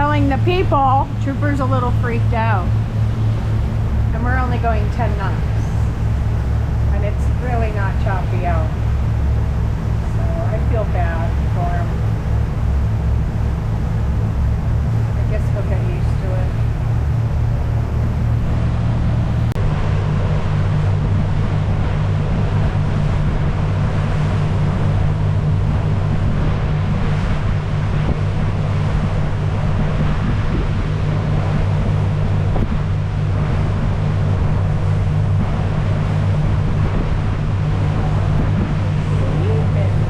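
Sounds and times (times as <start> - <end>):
motorboat engine running: 0.0 - 40.0
water rushing past hull: 0.0 - 40.0
wind buffeting microphone: 0.0 - 40.0.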